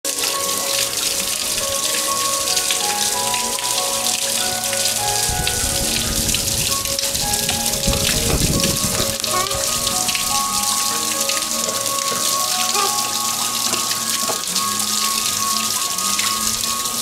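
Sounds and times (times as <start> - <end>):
background music of held notes: 0.1 - 17.0
water patter and hiss: 0.1 - 17.0.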